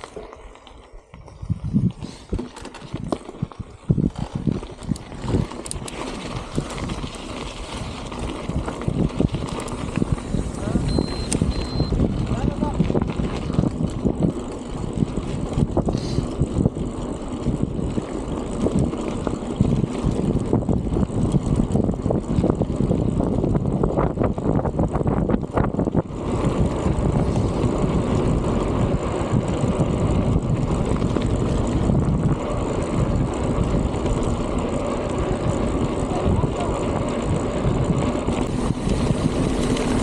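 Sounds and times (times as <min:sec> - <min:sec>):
wind buffeting microphone: 0:01.2 - 0:40.0.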